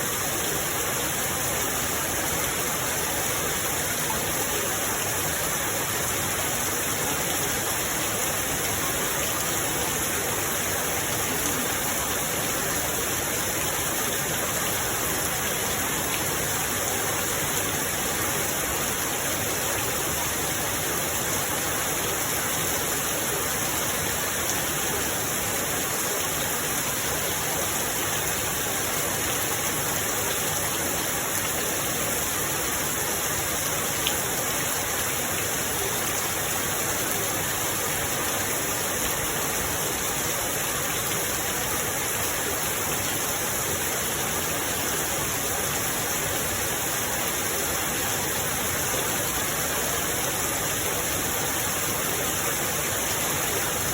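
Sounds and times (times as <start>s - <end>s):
steady rain hiss: 0.0s - 53.9s.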